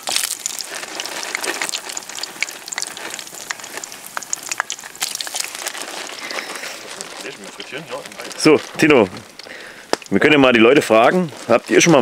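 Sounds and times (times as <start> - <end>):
fries sizzling in oil: 0.0 - 12.0.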